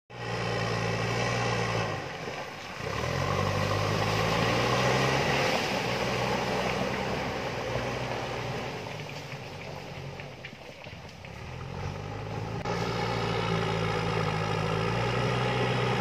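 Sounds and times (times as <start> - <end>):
diesel engine working under load: 0.1 - 16.0
bucket pushing earth and rock: 1.2 - 16.0.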